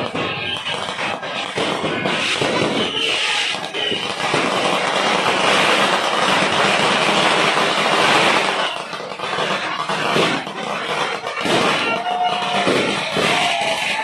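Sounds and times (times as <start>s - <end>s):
firework bangs: 0.0s - 14.0s
fireworks crackling: 0.0s - 14.0s.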